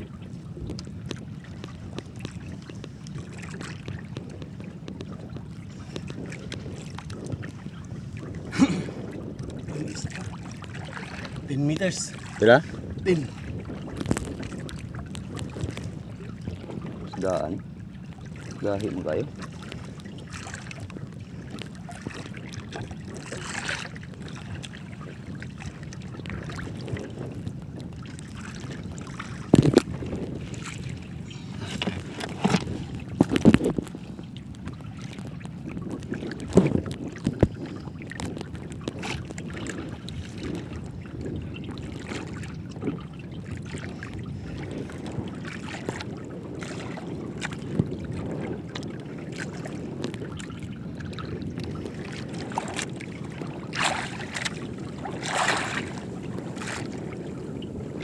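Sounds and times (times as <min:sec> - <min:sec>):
water sloshing against boat hull: 0:00.0 - 0:58.0
wind on microphone: 0:00.0 - 0:58.0.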